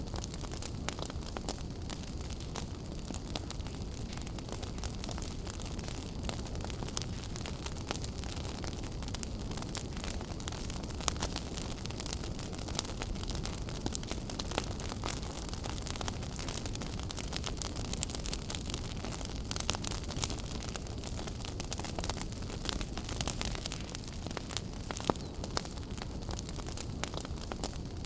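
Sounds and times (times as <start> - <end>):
fire crackling with sharp pops: 0.0 - 28.0
low rumble of fire: 0.0 - 28.0.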